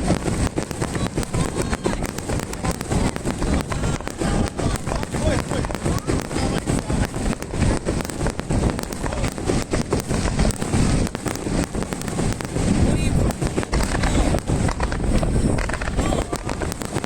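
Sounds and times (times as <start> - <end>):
fireworks booming and cracking: 0.0 - 17.0.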